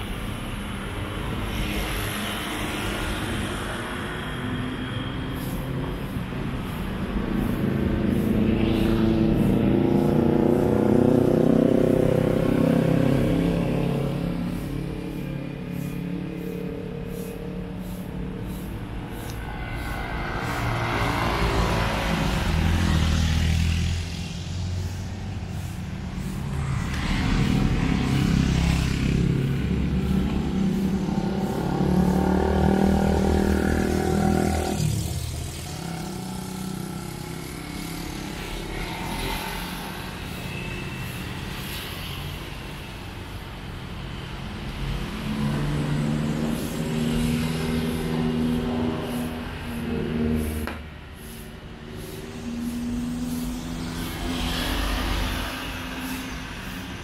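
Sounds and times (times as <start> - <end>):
vehicles driving past: 0.0 - 57.0.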